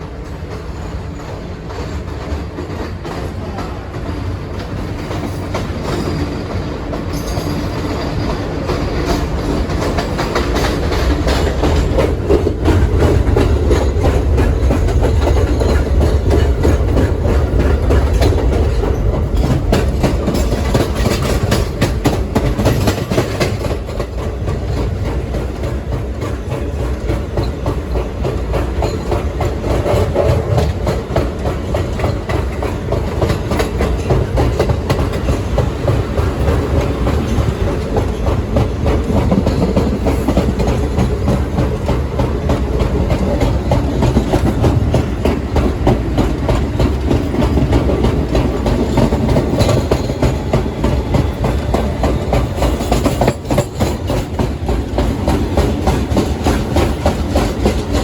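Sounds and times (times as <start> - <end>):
clickety-clack of rail joints: 0.0 - 58.0
subway train wheels rumbling: 0.0 - 58.0.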